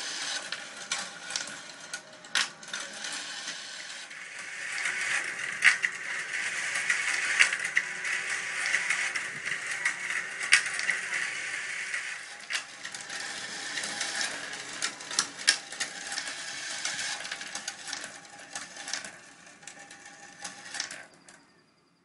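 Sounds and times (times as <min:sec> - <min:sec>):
marbles clattering along wire tracks: 0:02.8 - 0:21.1.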